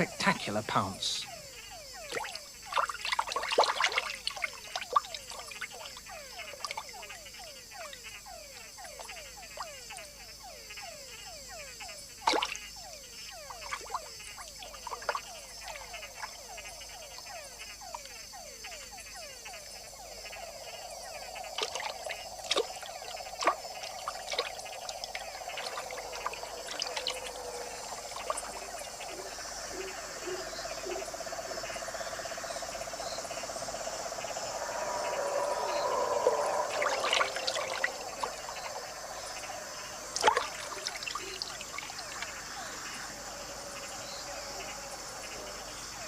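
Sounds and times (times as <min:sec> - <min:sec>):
frogs calling with falling whines: 0:00.0 - 0:46.0
high insect drone: 0:00.0 - 0:46.0.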